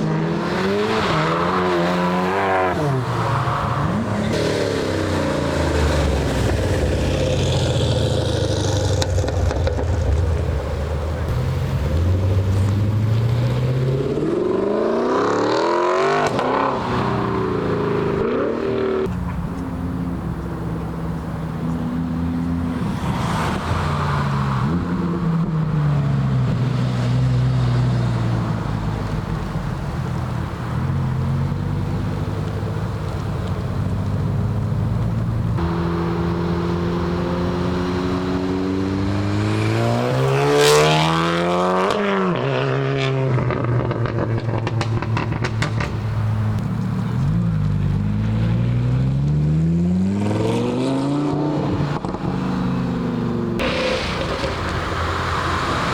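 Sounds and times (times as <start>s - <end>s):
car engines revving and accelerating: 0.0s - 55.9s.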